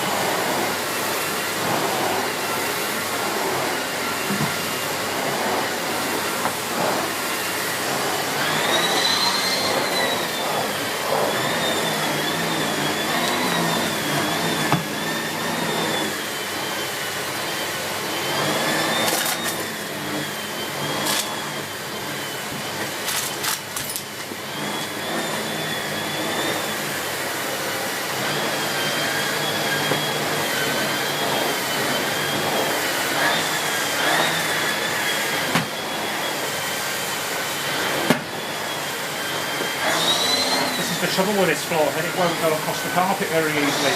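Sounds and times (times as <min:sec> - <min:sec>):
vacuum cleaner motor whine: 0:00.0 - 0:43.9.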